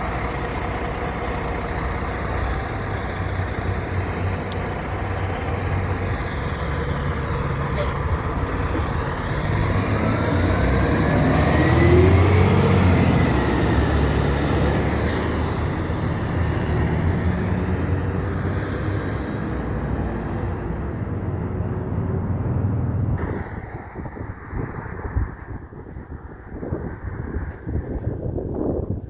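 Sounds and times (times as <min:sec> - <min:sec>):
heavy truck engine accelerating: 0:00.0 - 0:28.7.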